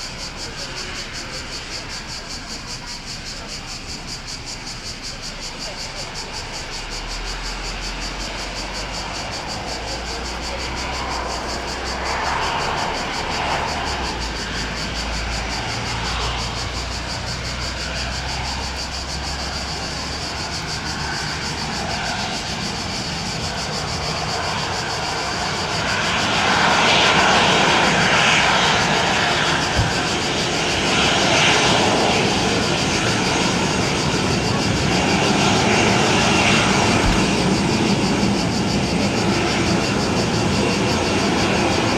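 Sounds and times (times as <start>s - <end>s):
jet engines roaring: 7.4s - 41.9s.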